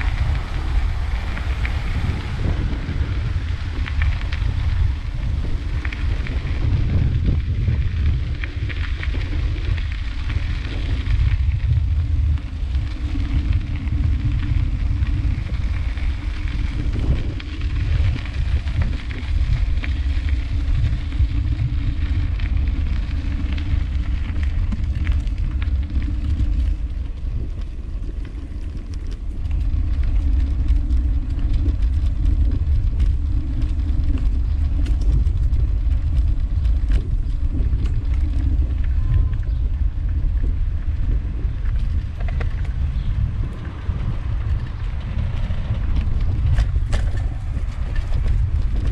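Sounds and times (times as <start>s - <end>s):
bicycle tyres on gravel: 0.0s - 48.9s
wind rumbling on microphone: 0.0s - 48.9s.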